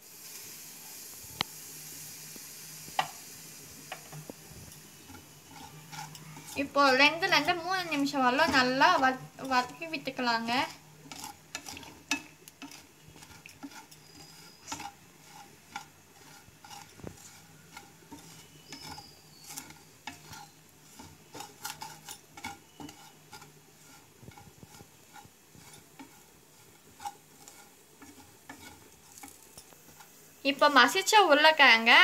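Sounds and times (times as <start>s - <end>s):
wooden spatula scraping frying pan: 3.8s - 31.2s.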